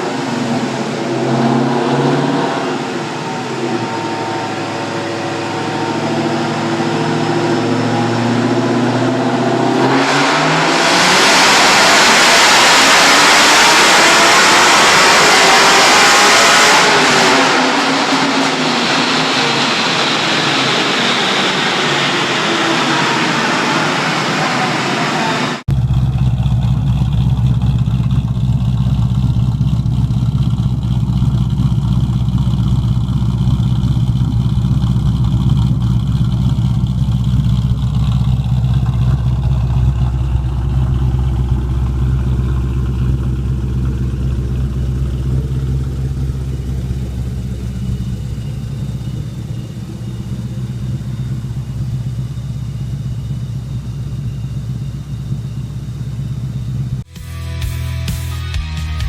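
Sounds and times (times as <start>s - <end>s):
car engine revving and idling: 0.0s - 57.1s.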